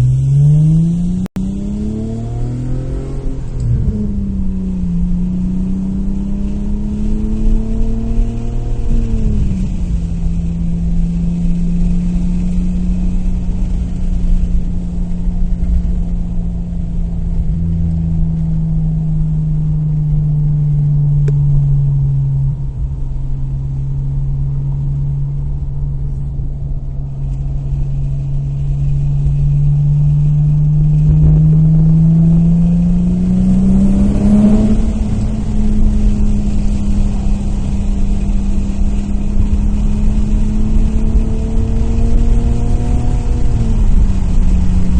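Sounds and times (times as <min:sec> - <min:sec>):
car engine droning: 0:00.0 - 0:44.9.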